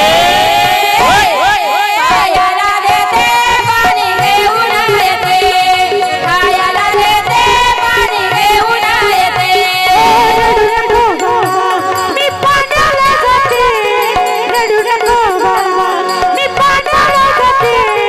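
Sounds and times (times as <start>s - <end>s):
hand drum: 0.1s - 18.0s
woman singing: 0.1s - 18.0s.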